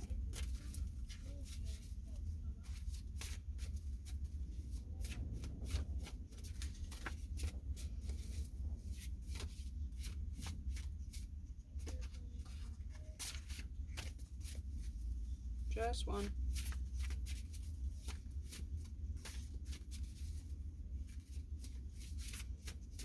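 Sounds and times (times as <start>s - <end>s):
cards being shuffled: 0.0s - 15.1s, 16.2s - 23.0s
low steady hum: 0.0s - 23.0s.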